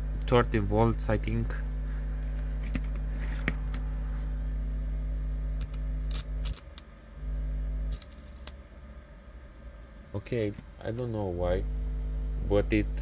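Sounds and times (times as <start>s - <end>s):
low transformer hum: 0.0s - 13.0s.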